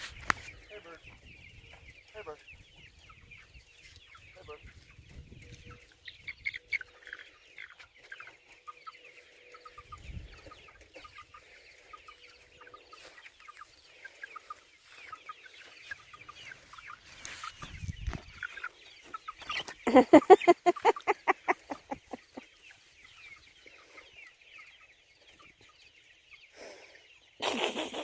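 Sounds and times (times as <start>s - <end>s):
chickens clucking and peeping: 0.0s - 28.0s.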